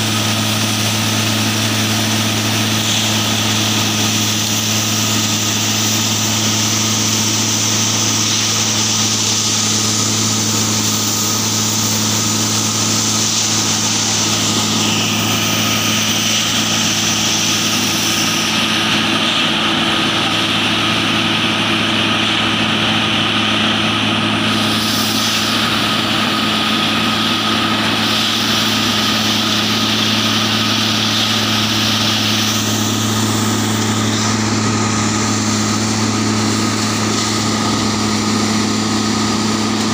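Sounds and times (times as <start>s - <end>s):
hydraulic hiss: 0.0s - 21.1s, 24.4s - 39.9s
machine engine humming and whining: 0.0s - 39.9s.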